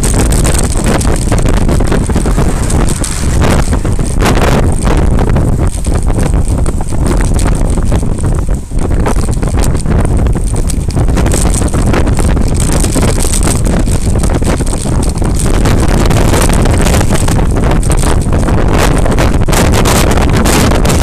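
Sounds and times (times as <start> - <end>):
bike road noise: 0.0 - 21.0
wind buffeting microphone: 0.0 - 21.0.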